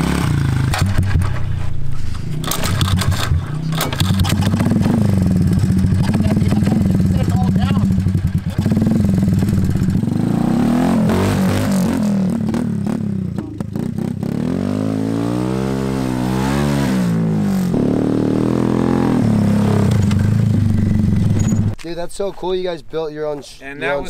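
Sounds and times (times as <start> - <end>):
three-wheeler engine revving: 0.0 - 1.6, 2.2 - 21.8.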